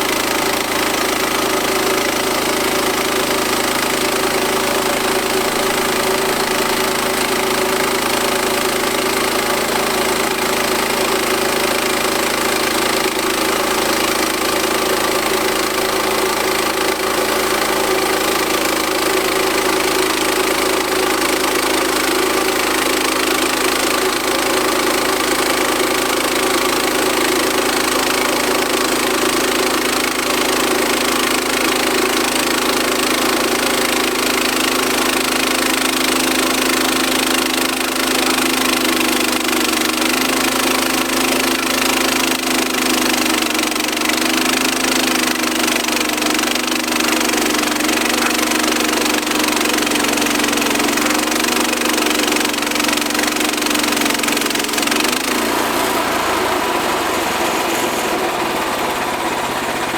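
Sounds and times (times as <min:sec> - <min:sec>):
sawmill engine droning: 0:00.0 - 0:59.9.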